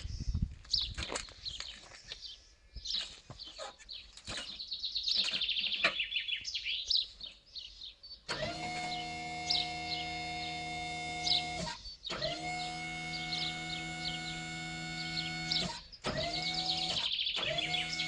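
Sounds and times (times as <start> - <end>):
birds chirping and trilling: 0.0 - 18.0.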